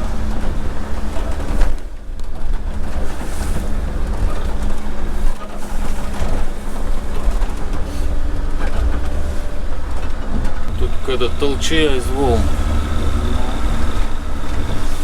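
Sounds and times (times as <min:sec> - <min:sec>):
boat engine drone: 0:00.0 - 0:15.0
water wash: 0:00.0 - 0:15.0.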